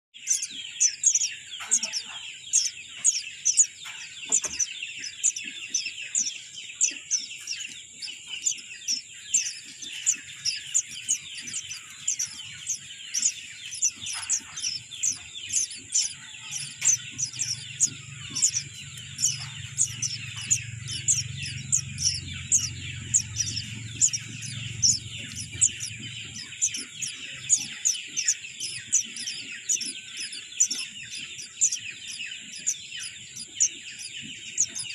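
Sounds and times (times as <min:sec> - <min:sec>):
high-pitched bird chorus: 0:00.0 - 0:34.9
sharp high bird chirps: 0:00.2 - 0:34.9.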